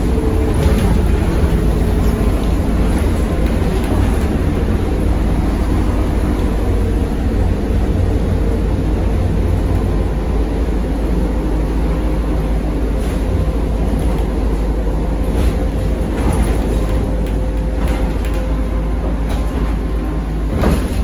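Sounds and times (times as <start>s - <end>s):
road noise: 0.0s - 21.0s
trolleybus traction drive drone: 0.0s - 21.0s.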